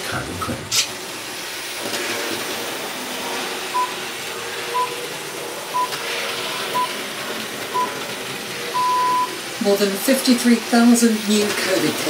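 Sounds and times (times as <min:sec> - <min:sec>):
model train whirring: 0:00.0 - 0:12.0.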